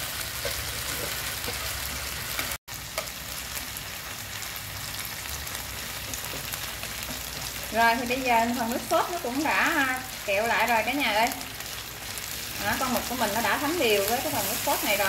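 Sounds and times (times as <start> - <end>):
sizzling in a frying pan: 0.0 - 15.0.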